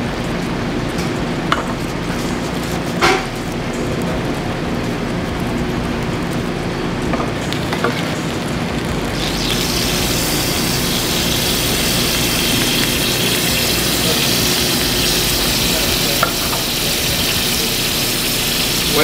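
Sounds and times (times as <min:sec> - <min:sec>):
kitchen hum: 0:00.0 - 0:19.0
meat sizzling on griddle: 0:00.0 - 0:19.0.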